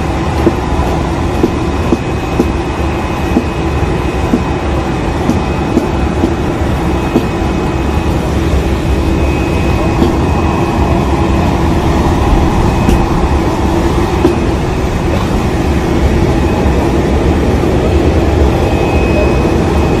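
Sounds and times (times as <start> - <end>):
faint high whine: 0.0 - 20.0
jet airliner engine rumble: 0.0 - 20.0.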